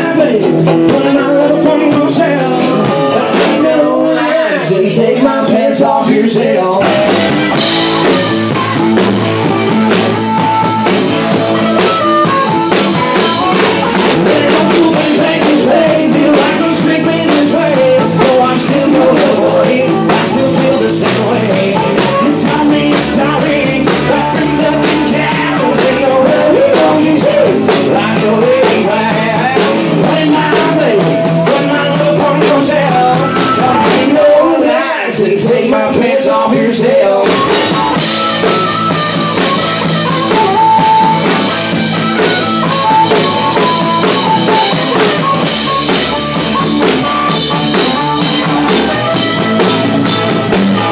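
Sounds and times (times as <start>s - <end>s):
drum kit: 0.0s - 34.6s, 35.2s - 50.9s
bass guitar: 0.0s - 50.9s
electric guitar: 0.0s - 50.9s
harmonica: 6.8s - 34.6s, 37.2s - 50.9s.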